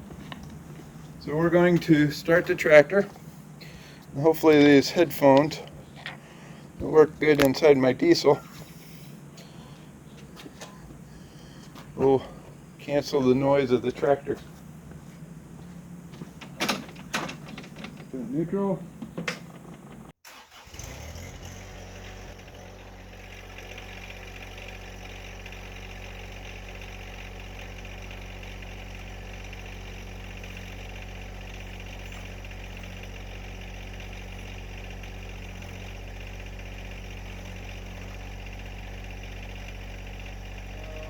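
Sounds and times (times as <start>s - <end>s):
tractor diesel engine starting: 0.0s - 41.0s.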